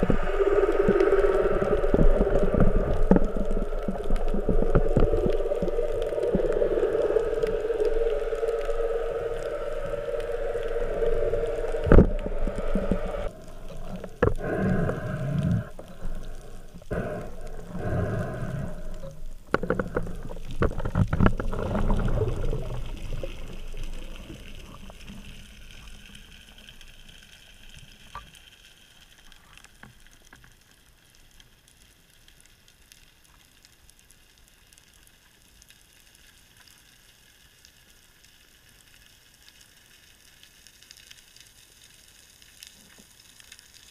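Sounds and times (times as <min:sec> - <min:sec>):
faint underwater hiss: 0:00.0 - 0:43.9
low underwater hum: 0:00.0 - 0:43.9.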